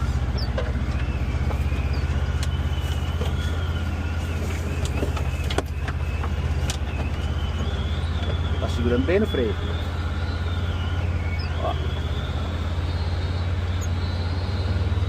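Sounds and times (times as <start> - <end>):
faint wavering high whine: 0.0 - 15.0
vehicle engine rumble: 0.0 - 15.0.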